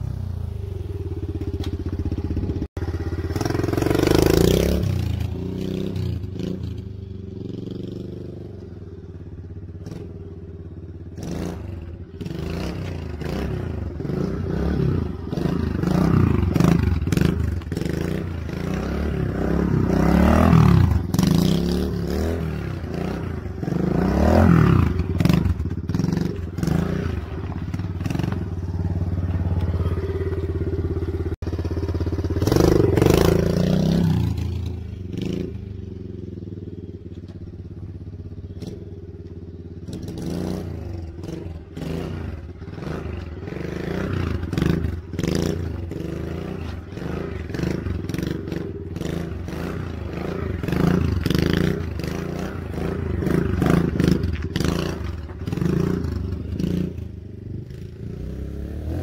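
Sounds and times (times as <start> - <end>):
dirt bike engine revving: 2.1 - 8.5, 11.1 - 36.9, 39.7 - 59.0.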